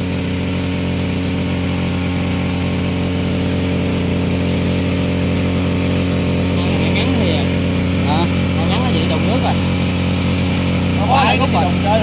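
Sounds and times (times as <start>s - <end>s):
engine-driven water pump running: 0.0s - 12.0s.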